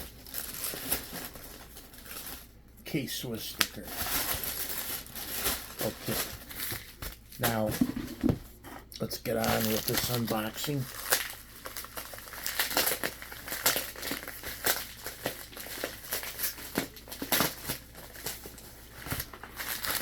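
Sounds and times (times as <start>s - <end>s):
packing material crinkling: 0.0s - 2.6s, 3.2s - 8.2s, 9.2s - 20.0s.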